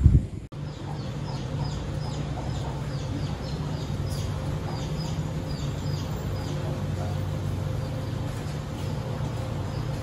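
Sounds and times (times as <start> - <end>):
steady low hum: 0.0 - 10.0
birds chirping: 0.5 - 10.0.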